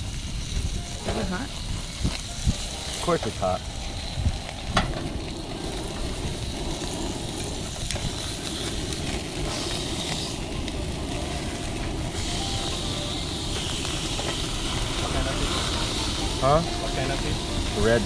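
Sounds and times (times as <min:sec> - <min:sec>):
fish sizzling on grill: 0:00.0 - 0:18.0
low steady rumble: 0:00.0 - 0:18.0.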